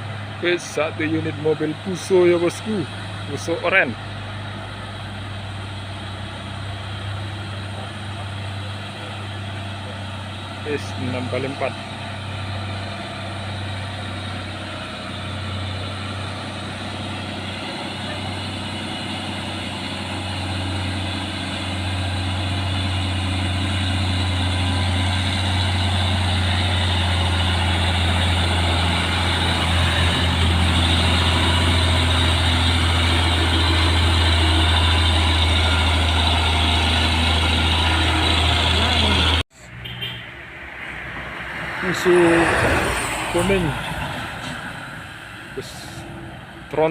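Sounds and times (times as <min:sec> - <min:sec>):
truck diesel engine droning: 0:00.0 - 0:46.9.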